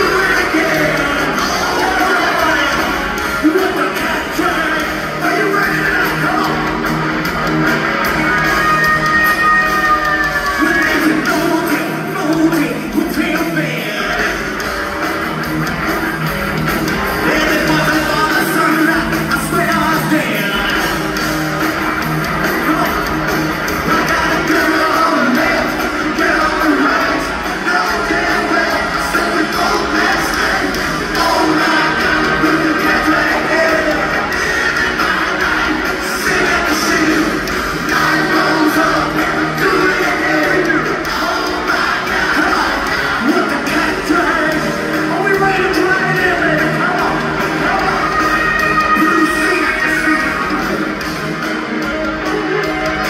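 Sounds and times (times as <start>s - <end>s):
man singing lead vocal: 0.0s - 6.8s, 8.6s - 14.7s, 17.1s - 21.1s, 23.7s - 51.0s
drums: 0.0s - 53.0s
electric guitars: 0.0s - 53.0s
live rock band playing: 0.0s - 53.0s.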